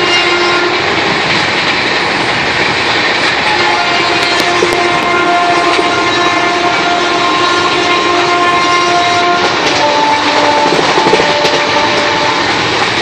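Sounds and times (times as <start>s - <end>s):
train running noise: 0.0s - 13.0s.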